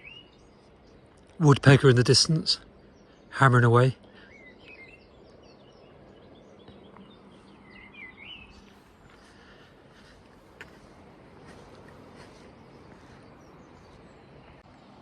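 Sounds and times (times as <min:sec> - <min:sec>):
faint songbirds singing: 0:00.0 - 0:15.0
outdoor background hiss: 0:00.0 - 0:15.0.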